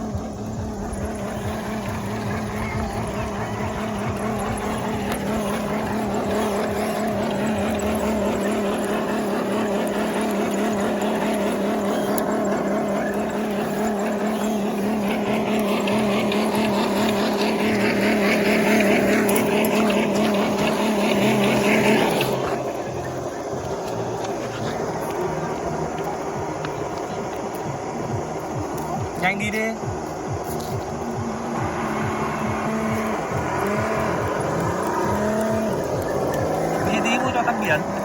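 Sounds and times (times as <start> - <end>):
electric motor whining: 0.0 - 38.0.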